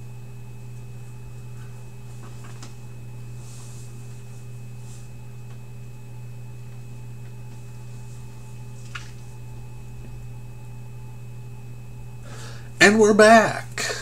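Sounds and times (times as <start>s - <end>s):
faint high whine: 0.0s - 14.0s
low electrical hum: 0.0s - 14.0s.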